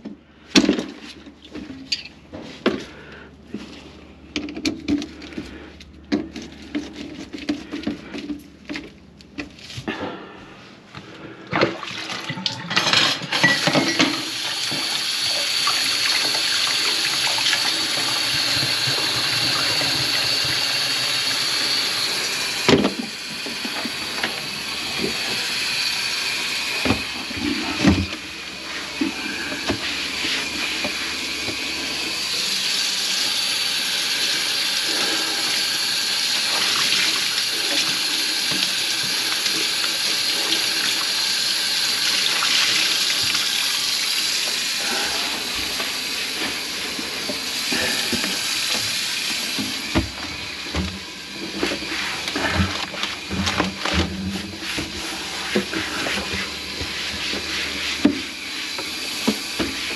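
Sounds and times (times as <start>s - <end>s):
water running into a sink: 11.6s - 59.9s.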